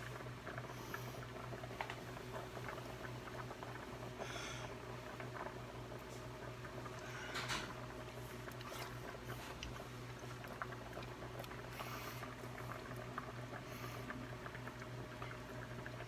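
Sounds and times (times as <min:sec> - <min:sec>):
steady low hum: 0:00.0 - 0:16.0
thick bubbles popping: 0:00.0 - 0:16.0.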